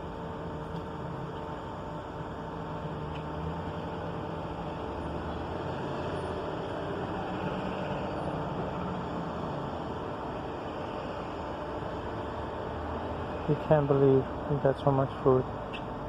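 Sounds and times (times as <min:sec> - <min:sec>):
mechanical drone with hum: 0:00.0 - 0:16.0.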